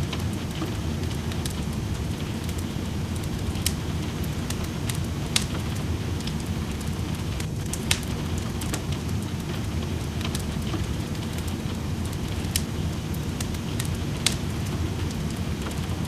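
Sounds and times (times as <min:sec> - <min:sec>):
rain falling: 0:00.0 - 0:16.0
wood fire crackling: 0:00.0 - 0:16.0.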